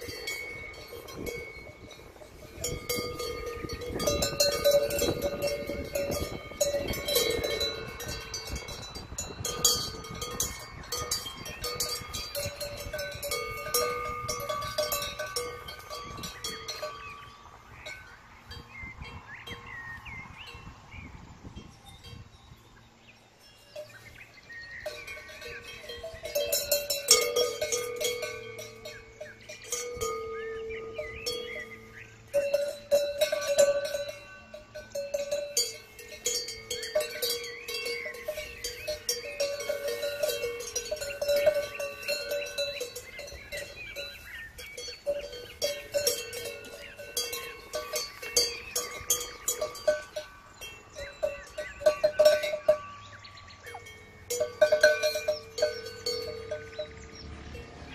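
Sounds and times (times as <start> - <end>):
cowbells clanking: 0.0 - 20.7, 21.5 - 22.6, 23.4 - 57.9.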